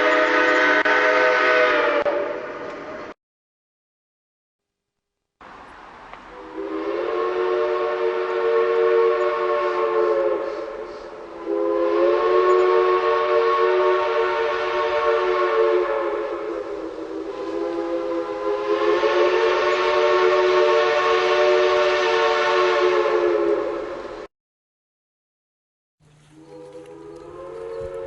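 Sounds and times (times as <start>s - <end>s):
train whistle chord blasts: 0.0s - 3.2s, 6.3s - 24.3s, 26.3s - 28.0s.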